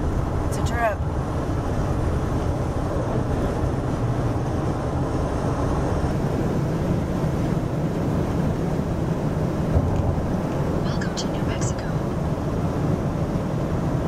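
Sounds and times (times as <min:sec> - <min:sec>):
van road and wind noise: 0:00.0 - 0:14.0.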